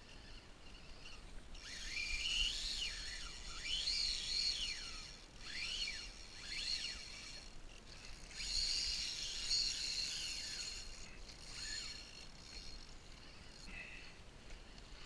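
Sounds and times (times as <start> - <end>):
fishing reel drag buzzing: 0.0 - 15.0.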